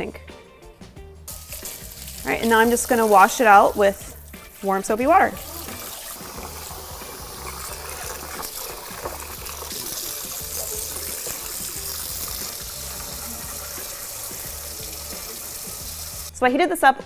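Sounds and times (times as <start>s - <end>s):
tap water running into sink: 1.4s - 16.3s.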